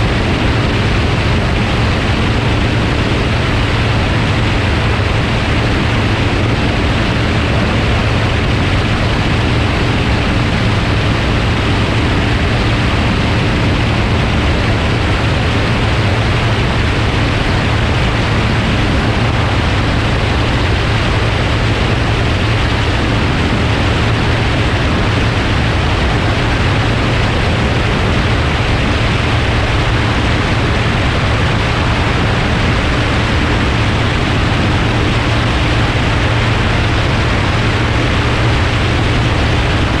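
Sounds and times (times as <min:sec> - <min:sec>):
propeller engine drone: 0:00.0 - 0:40.0
wind rush on microphone: 0:00.0 - 0:40.0.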